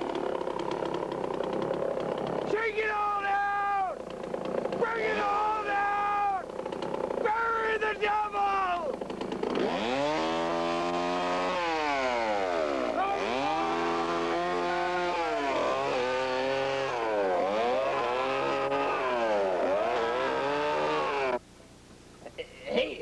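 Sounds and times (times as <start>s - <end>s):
chainsaw engine revving: 0.0s - 3.0s, 3.9s - 7.8s, 8.6s - 21.4s.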